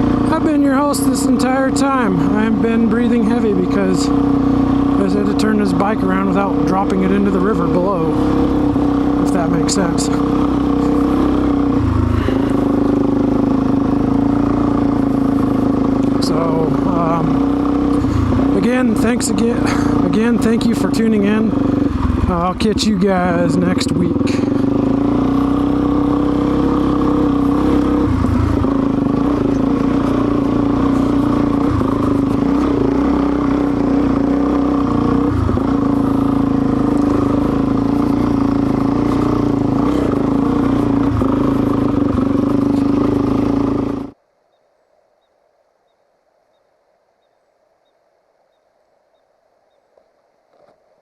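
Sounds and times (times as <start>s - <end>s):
motorcycle engine running: 0.0s - 44.2s.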